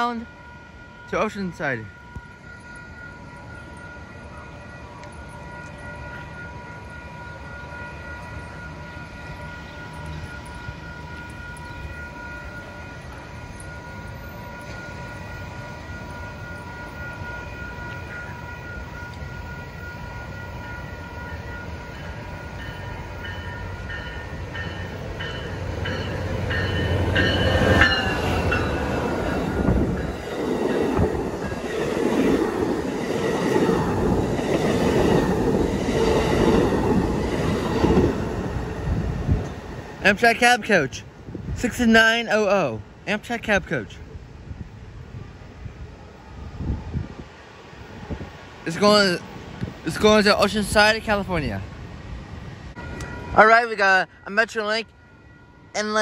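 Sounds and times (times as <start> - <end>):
locomotive whine: 0.0 - 41.6, 51.6 - 56.0
rolling noise of passenger cars: 0.0 - 56.0
train passing: 0.0 - 56.0.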